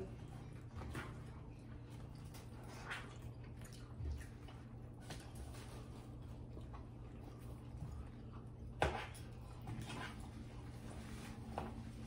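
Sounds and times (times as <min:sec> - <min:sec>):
chewing: 0:00.0 - 0:10.5.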